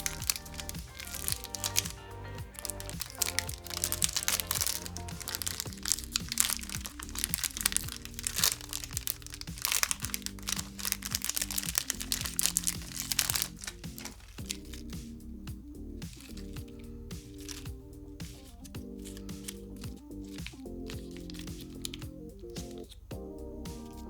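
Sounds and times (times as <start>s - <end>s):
plastic wrappers crinkling: 0.0s - 15.2s, 16.0s - 23.1s
background music: 0.0s - 24.0s.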